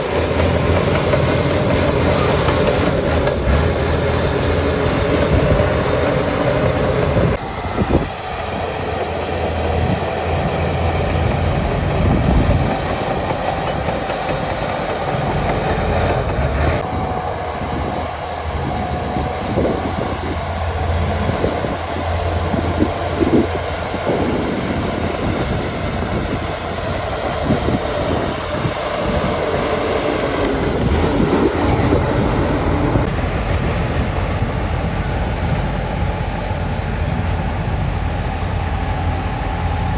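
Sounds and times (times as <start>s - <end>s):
bulldozer diesel engine: 0.0s - 39.9s
steel tracks clanking: 0.0s - 39.9s.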